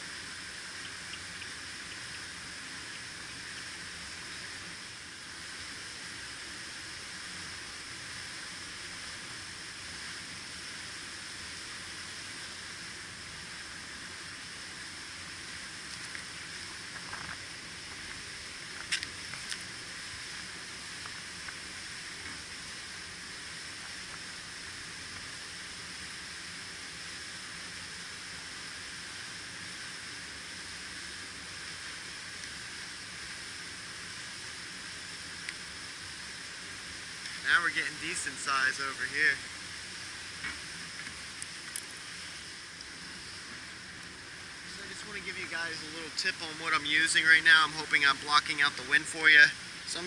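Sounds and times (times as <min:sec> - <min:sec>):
wind hissing over water: 0:00.0 - 0:50.0.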